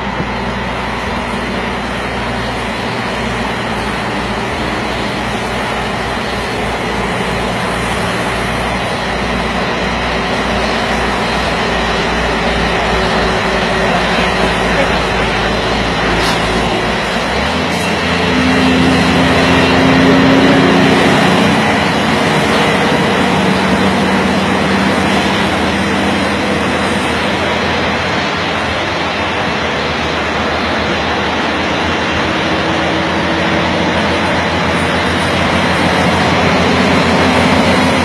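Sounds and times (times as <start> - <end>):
road and wind noise: 0.0 - 38.0
truck diesel engine hum: 0.0 - 38.0.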